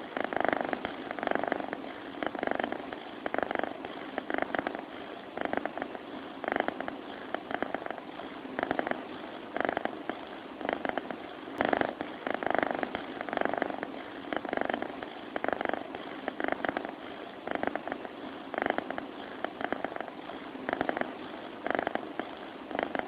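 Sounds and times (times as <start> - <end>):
cat snoring: 0.0 - 23.0.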